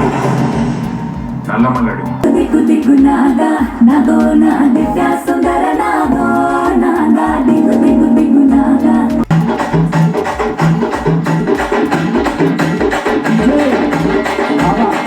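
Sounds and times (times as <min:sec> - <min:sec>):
song through tv speakers: 0:00.0 - 0:15.0.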